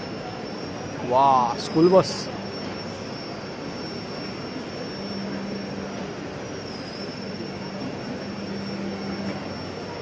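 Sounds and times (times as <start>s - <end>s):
exhibition hall rumble: 0.0s - 10.0s
faint high whine: 0.0s - 10.0s.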